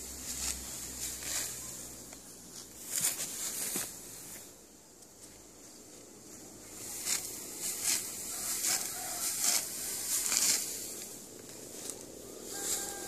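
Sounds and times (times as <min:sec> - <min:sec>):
rice stalks rustling and crunching: 0:00.0 - 0:13.0.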